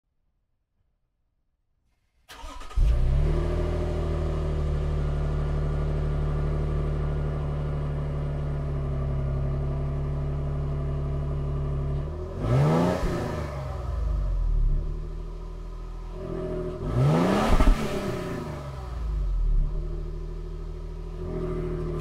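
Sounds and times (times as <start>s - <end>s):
truck engine revving and idling: 2.4s - 22.0s.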